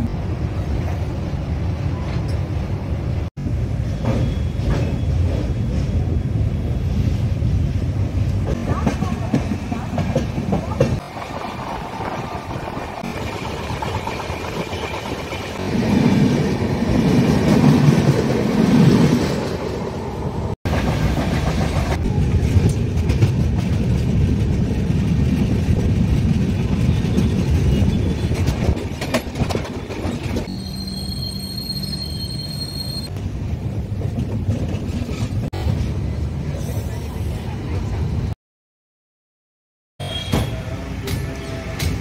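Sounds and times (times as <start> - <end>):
train rumbling on rails: 0.0 - 38.4, 40.0 - 42.0.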